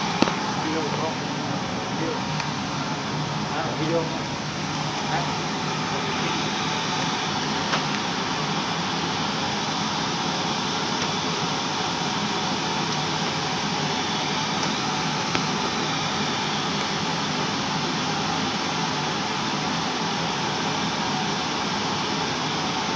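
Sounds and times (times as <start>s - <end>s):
fan rushing noise: 0.0s - 22.9s.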